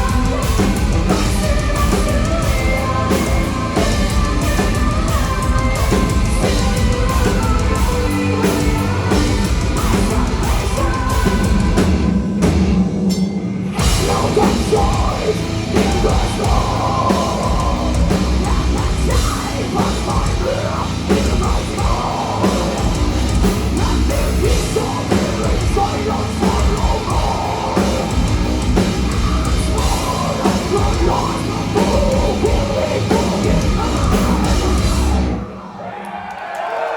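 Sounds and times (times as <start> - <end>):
person singing: 0.0 - 12.2, 13.8 - 35.9
heavy metal band playing: 0.0 - 36.8.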